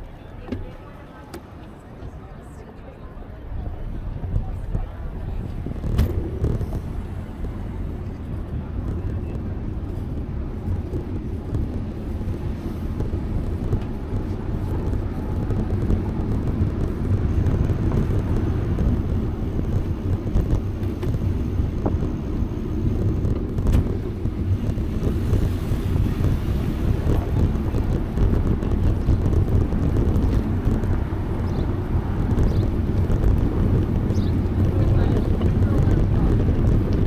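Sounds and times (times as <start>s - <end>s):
road noise: 0.0s - 37.0s
wind buffeting microphone: 0.0s - 37.0s.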